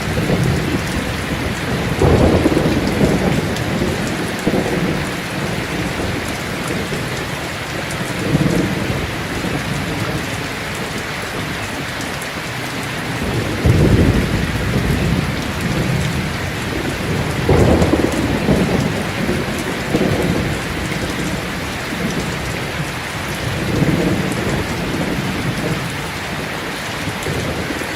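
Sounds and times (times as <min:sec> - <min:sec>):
thunder rumbling: 0:00.0 - 0:11.6, 0:12.6 - 0:27.9
heavy rain: 0:00.0 - 0:27.9.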